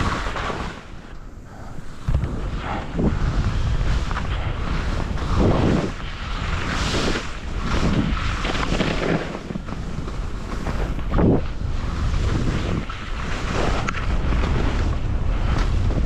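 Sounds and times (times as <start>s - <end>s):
skis hissing through snow: 0.0s - 15.9s
wind rumbling on microphone: 0.0s - 16.0s.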